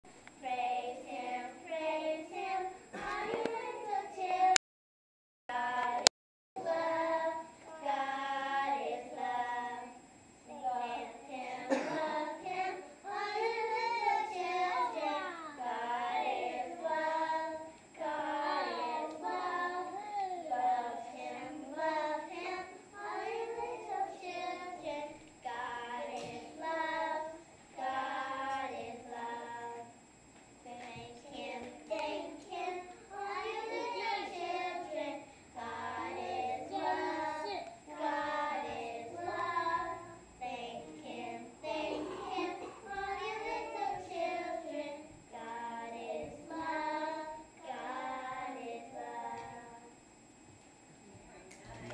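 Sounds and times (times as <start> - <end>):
children singing: 0.6 - 4.6, 10.6 - 29.9, 30.9 - 49.8.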